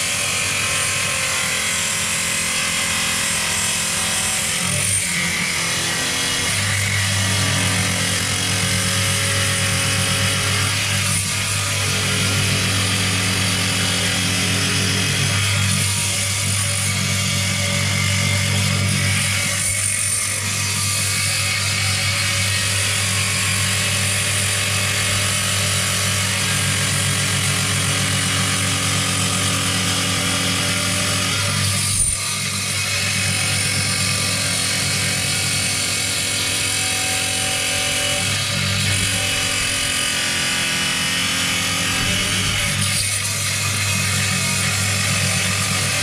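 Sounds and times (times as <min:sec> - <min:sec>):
saw blade grinding stone: 0:00.0 - 0:46.0
saw motor running: 0:00.0 - 0:46.0.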